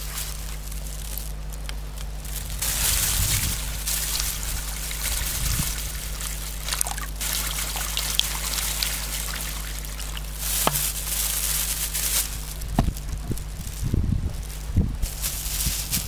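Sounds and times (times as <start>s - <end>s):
water trickling into plastic bag: 0.0s - 16.0s.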